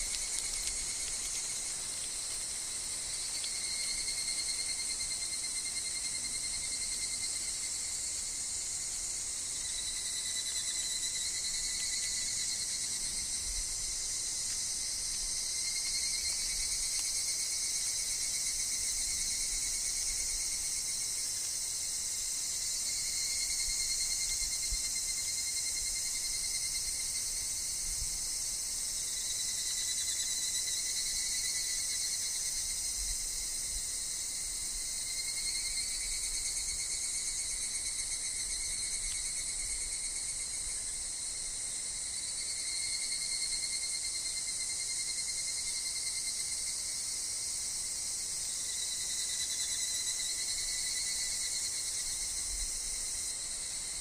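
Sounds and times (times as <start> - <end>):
insects buzzing shrilly: 0.0 - 54.0.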